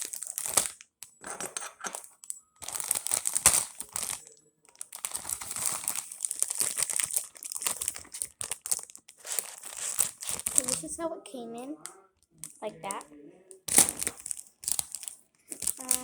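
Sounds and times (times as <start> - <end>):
plastic bag crinkling: 0.0 - 1.0, 1.9 - 13.0, 13.6 - 16.0.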